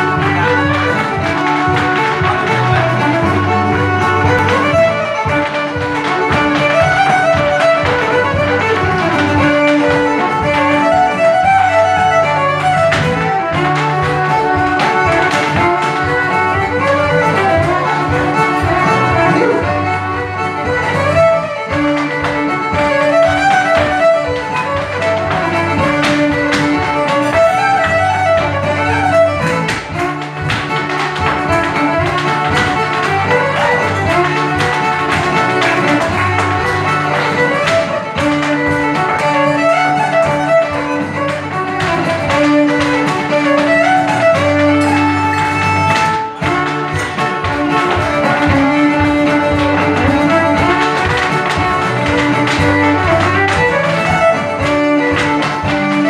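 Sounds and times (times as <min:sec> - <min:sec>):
fiddle playing dance tune: 0:00.0 - 0:56.0
strummed acoustic guitar: 0:00.0 - 0:56.0.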